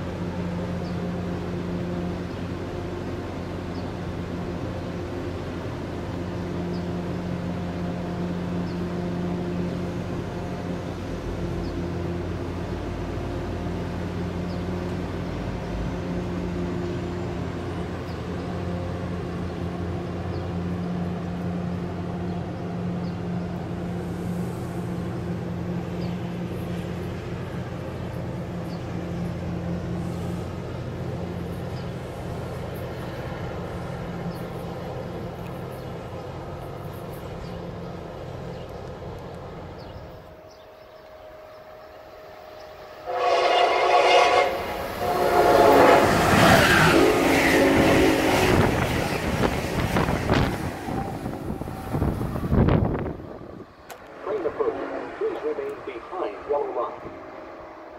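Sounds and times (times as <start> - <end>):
diesel locomotive engine humming: 0.0 - 57.9.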